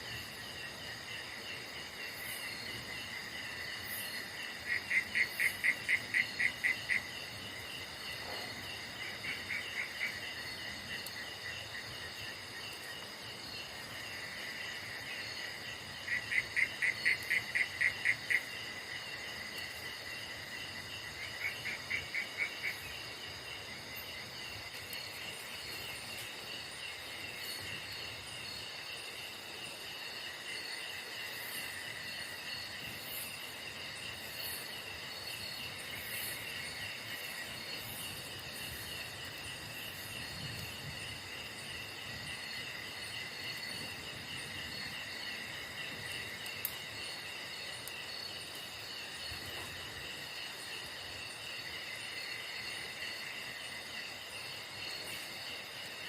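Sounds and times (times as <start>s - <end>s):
crickets and insects trilling: 0.0s - 56.0s
loud pulsing insect call: 0.0s - 56.0s.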